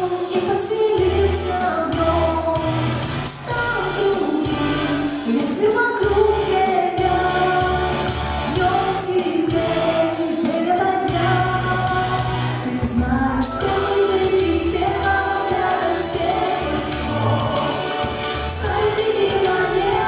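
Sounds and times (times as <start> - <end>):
backing track with bass and beat: 0.0 - 20.0
girl singing pop song: 0.0 - 20.0.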